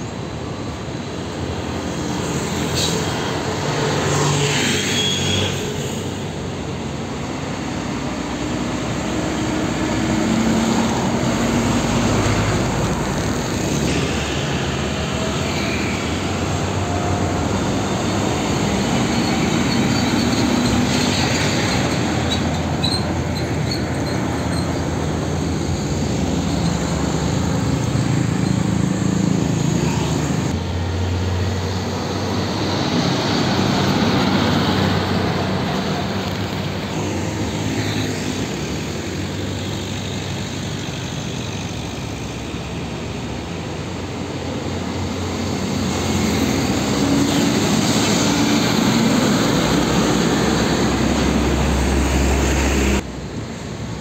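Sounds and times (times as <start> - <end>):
road traffic passing: 0.0 - 54.0
diesel truck passing: 5.8 - 54.0.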